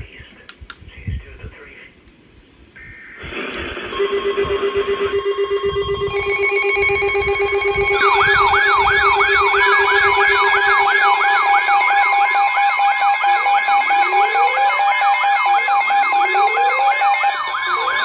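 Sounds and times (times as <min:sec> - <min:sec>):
pulsing electronic tone: 0:02.8 - 0:18.0
siren sweep: 0:02.8 - 0:18.0
steady high tones: 0:02.8 - 0:18.0.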